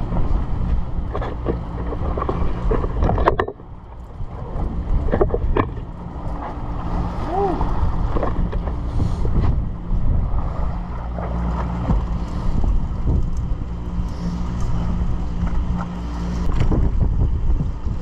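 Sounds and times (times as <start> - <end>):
boat machinery droning: 0.0 - 18.0
water noise: 0.0 - 18.0
wind: 0.0 - 18.0.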